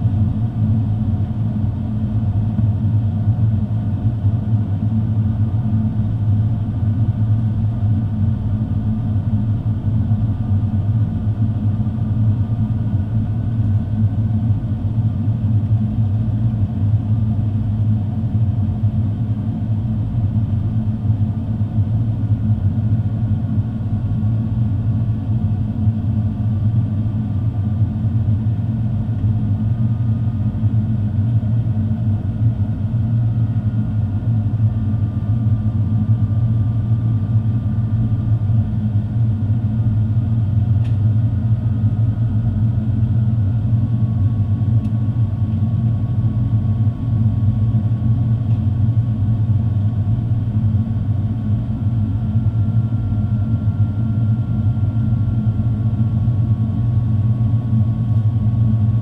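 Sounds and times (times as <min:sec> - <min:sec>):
airplane engines rumbling in cabin: 0:00.0 - 0:59.0.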